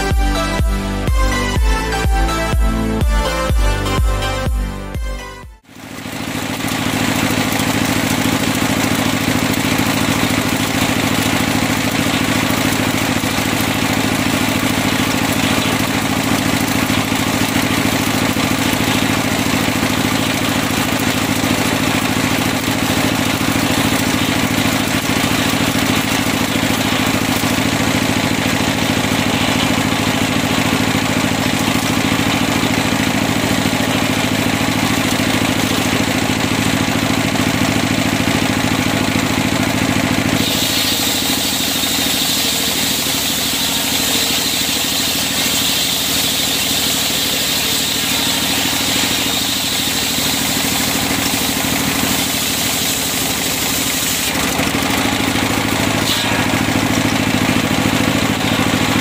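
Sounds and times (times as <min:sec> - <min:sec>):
sawmill engine running: 0:00.0 - 0:59.0
saw blade whirring: 0:06.2 - 0:59.0.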